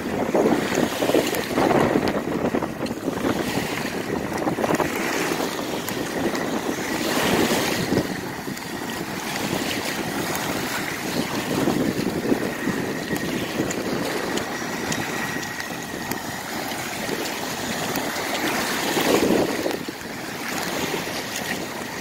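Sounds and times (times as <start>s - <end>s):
faint toy boat motor whine: 0.0s - 22.0s
small waves washing ashore: 0.0s - 22.0s
wind buffeting microphone: 0.0s - 22.0s.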